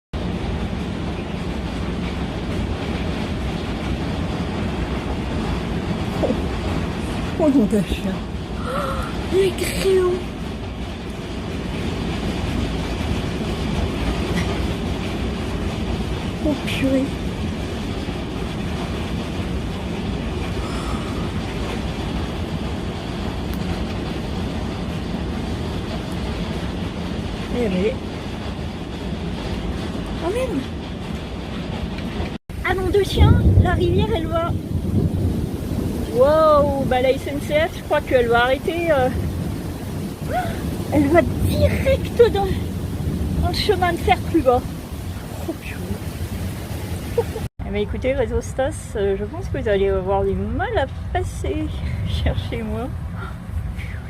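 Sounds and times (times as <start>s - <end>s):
floodwater rushing down street: 0.2s - 28.2s, 29.7s - 30.8s, 32.5s - 54.0s
deep rumble: 0.2s - 54.0s
hail and rain downpour: 0.2s - 54.0s.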